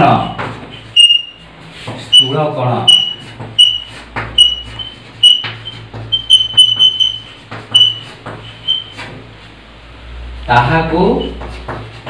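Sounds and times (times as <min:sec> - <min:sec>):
chalk squeaking on a blackboard: 0:00.1 - 0:09.6, 0:11.1 - 0:12.0
chalk tapping: 0:00.3 - 0:09.6, 0:11.2 - 0:12.0.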